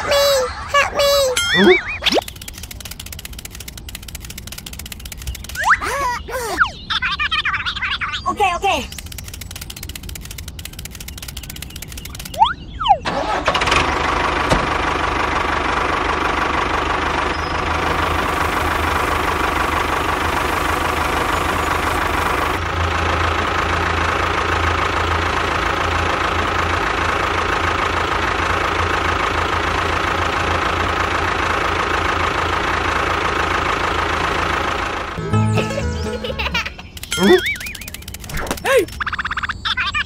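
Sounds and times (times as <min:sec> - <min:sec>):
tractor engine chugging: 0:00.0 - 0:06.5, 0:08.8 - 0:40.0.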